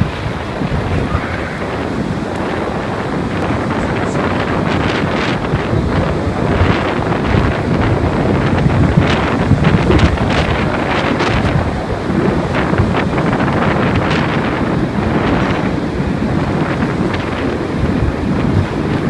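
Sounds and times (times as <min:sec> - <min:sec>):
driving rain on street: 0:00.0 - 0:19.0
strong wind buffeting microphone: 0:00.0 - 0:19.0.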